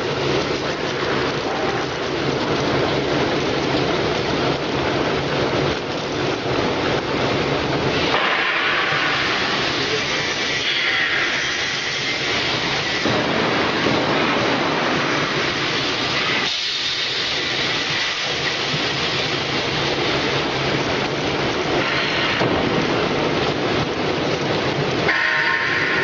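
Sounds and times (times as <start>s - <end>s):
vegetable washing machine running: 0.0s - 26.0s.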